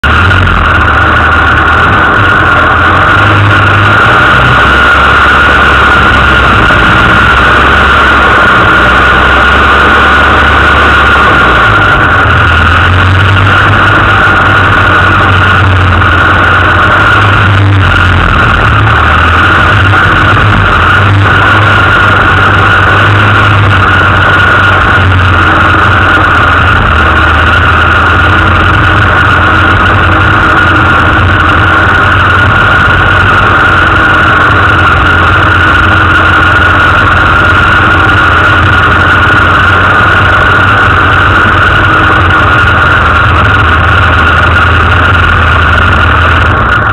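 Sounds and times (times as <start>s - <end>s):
car engine running steadily: 0.0s - 46.9s.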